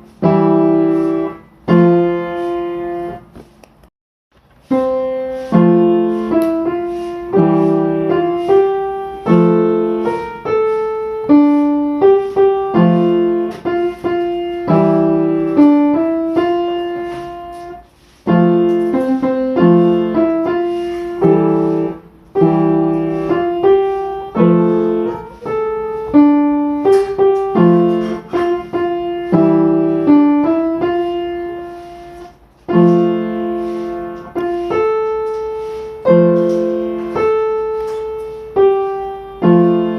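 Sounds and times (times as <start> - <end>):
slow solo piano: 0.0 - 3.6, 4.4 - 39.9.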